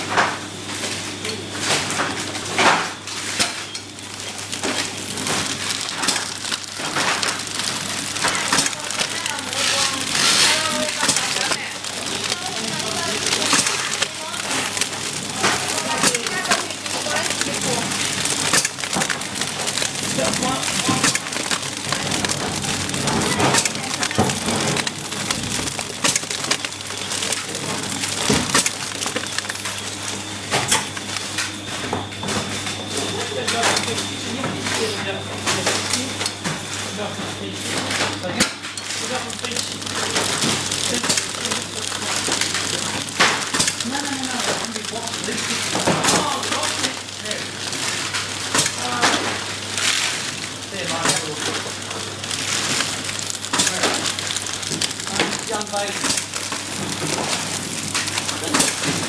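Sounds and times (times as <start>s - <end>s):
machine humming: 0.0s - 59.0s
plastic film crinkling: 3.0s - 31.6s, 36.9s - 59.0s.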